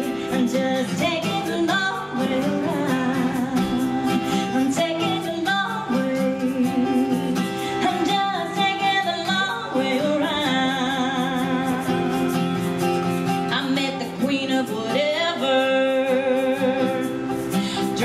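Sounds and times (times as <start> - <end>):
live country band playing: 0.0 - 18.0.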